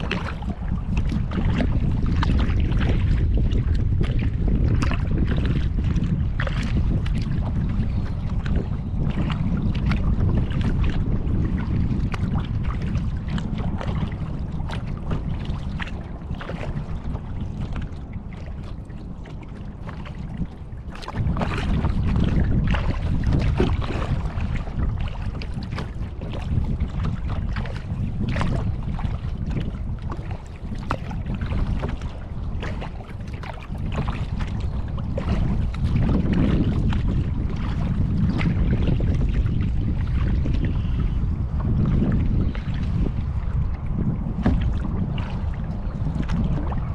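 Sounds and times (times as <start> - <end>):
paddle splashing water: 0.0 - 46.9
wind buffeting microphone: 0.0 - 46.9.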